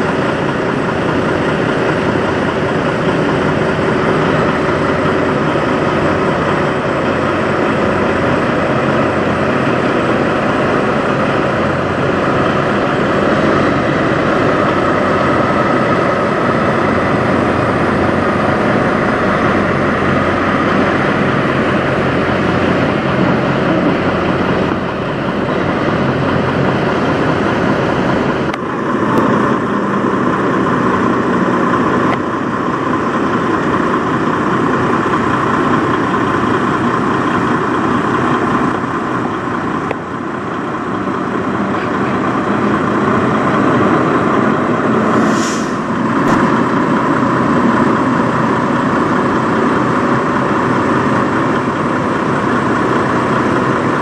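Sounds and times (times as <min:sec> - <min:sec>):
diesel truck engines running: 0:00.0 - 0:54.0.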